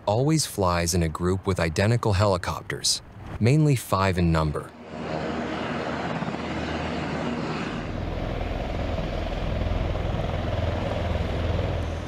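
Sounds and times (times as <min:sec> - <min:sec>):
helicopter rotors and turbines: 0:00.0 - 0:12.0.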